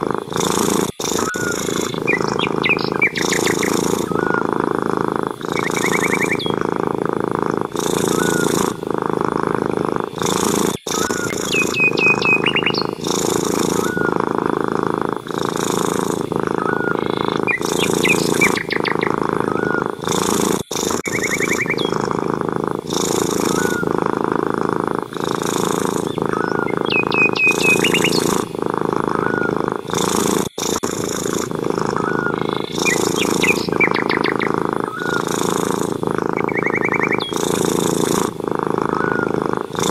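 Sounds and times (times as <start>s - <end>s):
cat purring: 0.0s - 39.9s
small birds chirping: 0.0s - 39.9s.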